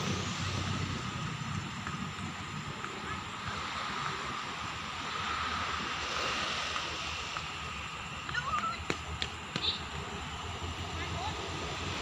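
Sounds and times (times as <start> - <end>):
distant locomotive rumble: 0.0 - 12.0
night-time background noise: 0.0 - 12.0.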